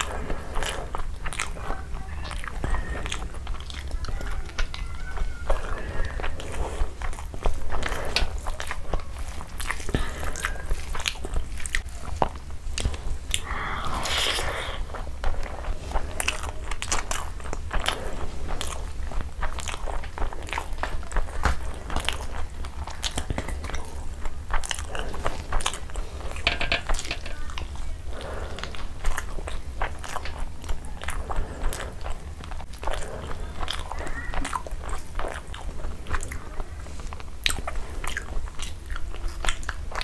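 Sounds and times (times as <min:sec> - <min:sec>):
fingers squishing rice: 0:00.0 - 0:40.0
steady low hum: 0:00.0 - 0:40.0
wet chewing: 0:00.0 - 0:40.0.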